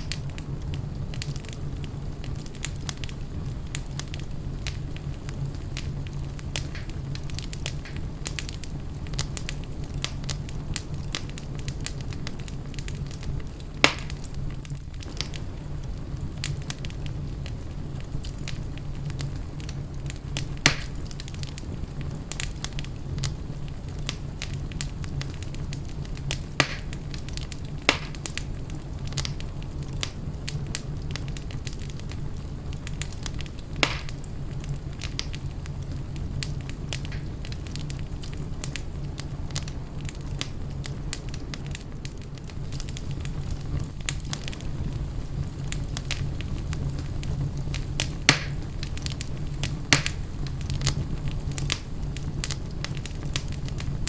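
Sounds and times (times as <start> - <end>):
fire crackling in a fireplace: 0.0 - 54.0.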